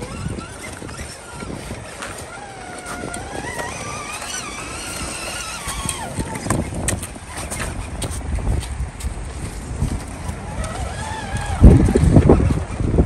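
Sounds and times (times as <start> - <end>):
small electric motor and gears whining: 0.0 - 13.0.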